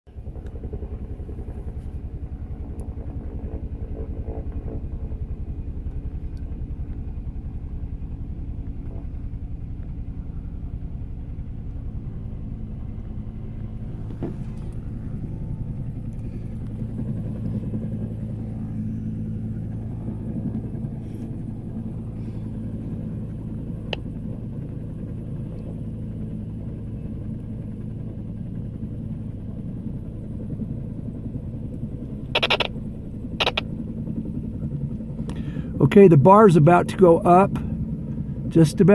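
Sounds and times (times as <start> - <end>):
helicopter rotor chopping: 0.1 - 38.9.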